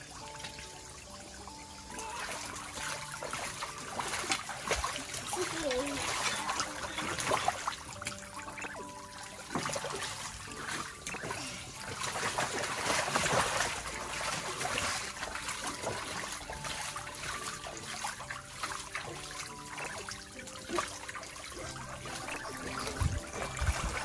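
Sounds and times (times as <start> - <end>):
soft background music: 0.0 - 24.0
water splashing and spraying: 0.0 - 24.0
children splashing: 1.8 - 24.0.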